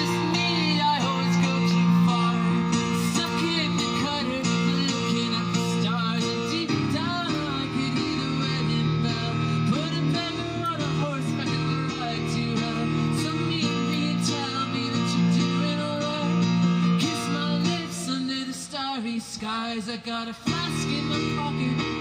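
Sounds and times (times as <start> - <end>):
piano playing chords: 0.0 - 19.1, 20.4 - 22.0.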